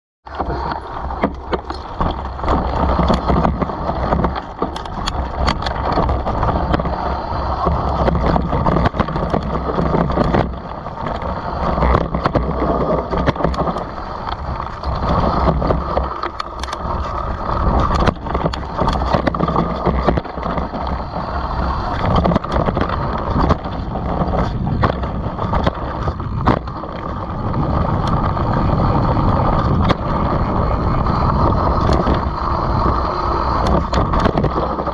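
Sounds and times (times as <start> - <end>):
bike rattling over bumps: 0.3 - 34.9
bike tyres rolling over dirt: 0.3 - 34.9
wind on microphone: 0.3 - 34.9.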